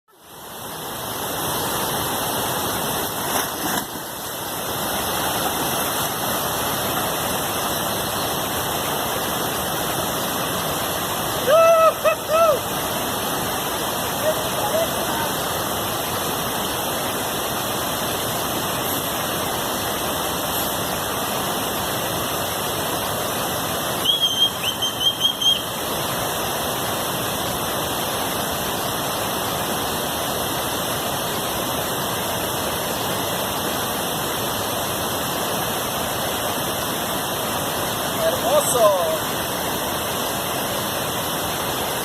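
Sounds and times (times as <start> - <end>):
waterfall rushing: 0.1 - 42.0.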